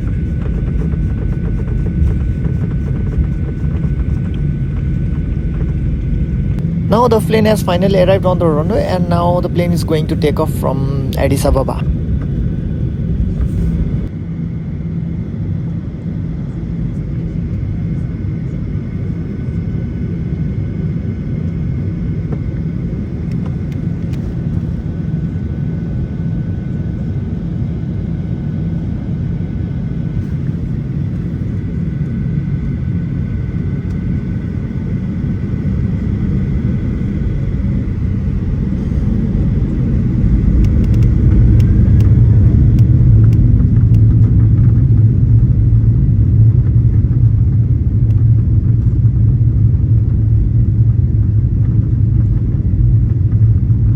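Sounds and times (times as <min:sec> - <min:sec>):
faint engine whine: 0:00.0 - 0:53.9
jet engines rumble inside cabin: 0:00.0 - 0:53.9.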